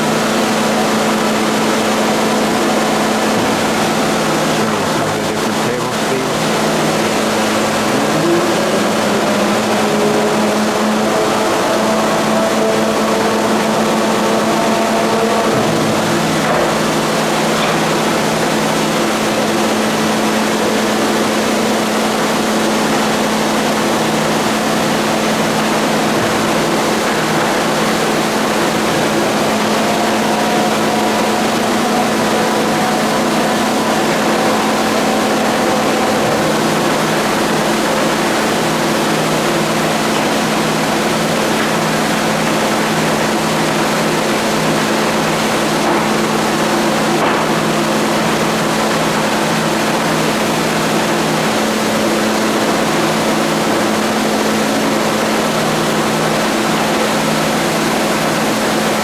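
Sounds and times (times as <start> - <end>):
boring mill running: 0.0 - 59.0.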